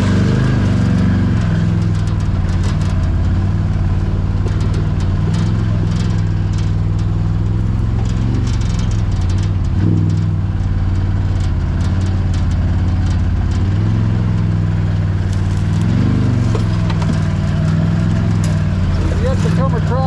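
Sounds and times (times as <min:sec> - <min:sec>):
vehicle engine running: 0:00.0 - 0:20.0
small clicks and rattles: 0:01.4 - 0:20.0.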